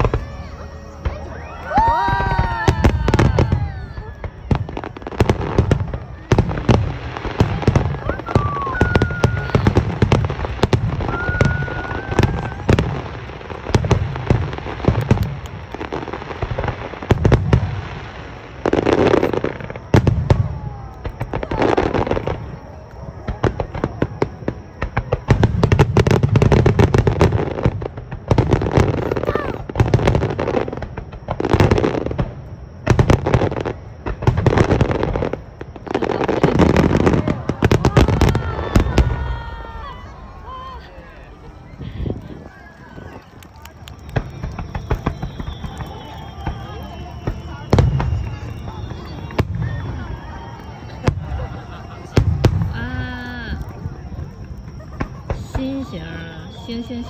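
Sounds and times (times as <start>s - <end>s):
firework whistles: 0.0s - 57.0s
fireworks booming and crackling: 0.0s - 57.0s.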